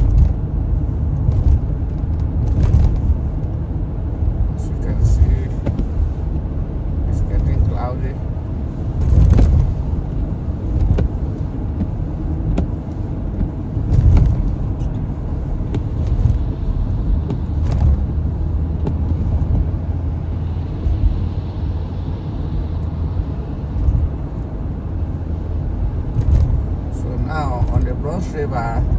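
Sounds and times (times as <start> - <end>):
car road and engine rumble: 0.0 - 28.9.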